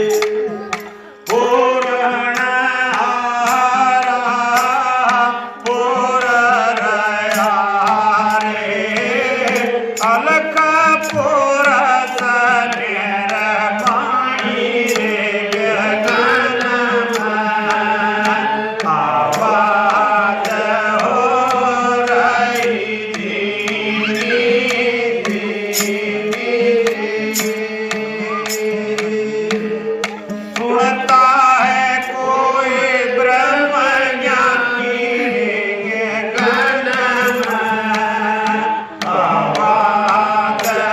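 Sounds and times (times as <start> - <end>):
gliding devotional melody: 0.0 - 40.9
hand drum beat: 0.0 - 40.9.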